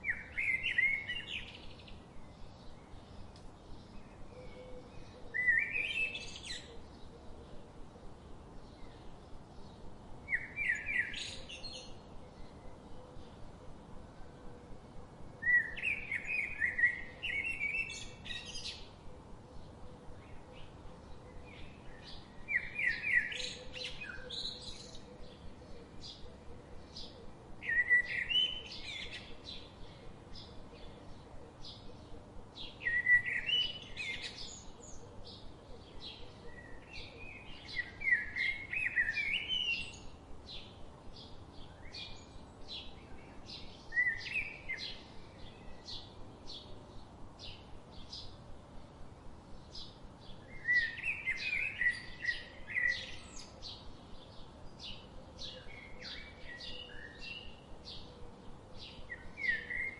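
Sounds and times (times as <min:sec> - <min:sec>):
bird warbling song: 0:00.0 - 0:07.7, 0:08.6 - 0:13.9, 0:15.4 - 0:48.4, 0:49.5 - 0:59.9.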